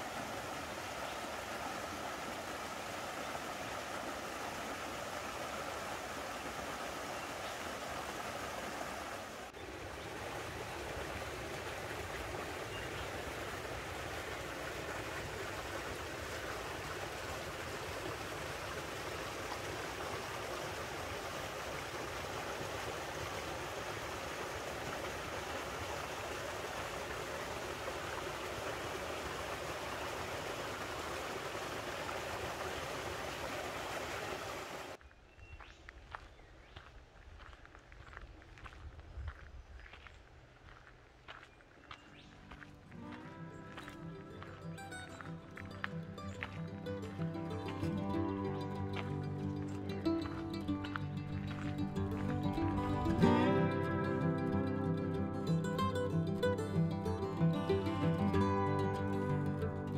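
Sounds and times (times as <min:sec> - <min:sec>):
creek water rushing: 0:00.0 - 0:35.0, 0:40.6 - 0:59.9.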